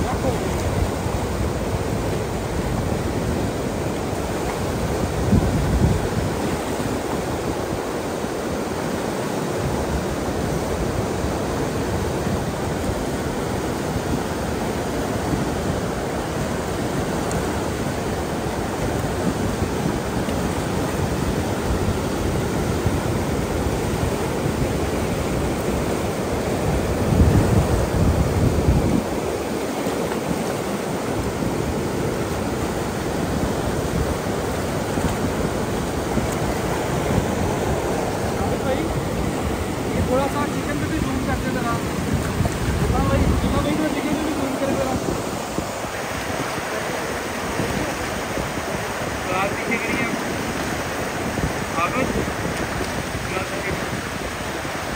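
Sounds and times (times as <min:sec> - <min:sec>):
river rushing over rapids: 0:00.0 - 0:54.9.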